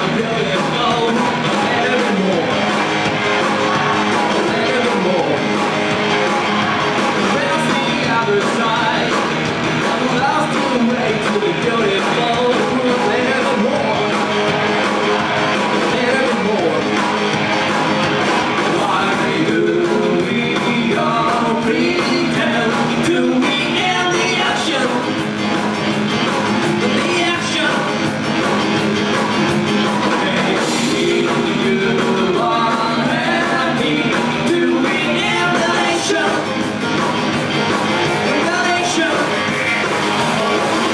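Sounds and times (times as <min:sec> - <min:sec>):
person singing lead vocal: 0:00.0 - 0:16.9, 0:18.3 - 0:25.2, 0:26.8 - 0:28.0, 0:30.0 - 0:36.7, 0:38.1 - 0:40.9
drums: 0:00.0 - 0:40.9
electric guitars: 0:00.0 - 0:40.9.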